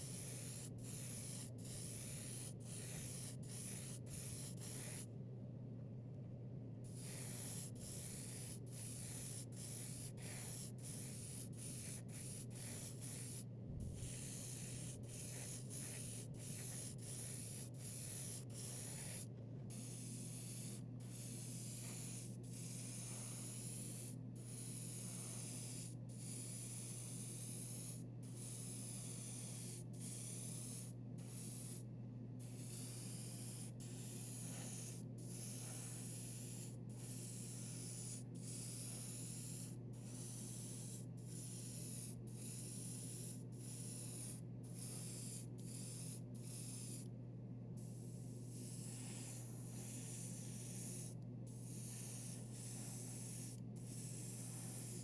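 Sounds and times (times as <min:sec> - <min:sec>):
airbrush spraying hiss: 0:00.0 - 0:05.1, 0:06.9 - 0:47.1, 0:47.8 - 0:55.0
steady low hum: 0:00.0 - 0:55.0.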